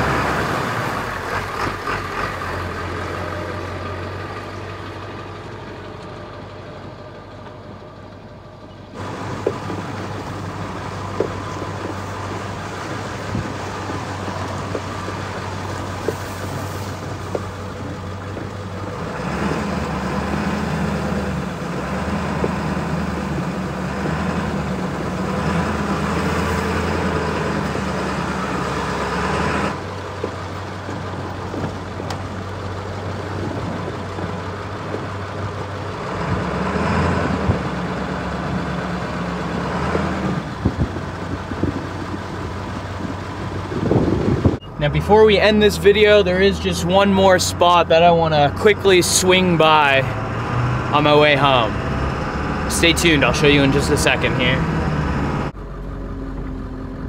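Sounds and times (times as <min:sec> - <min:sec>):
truck engine drone: 0:00.0 - 0:57.0.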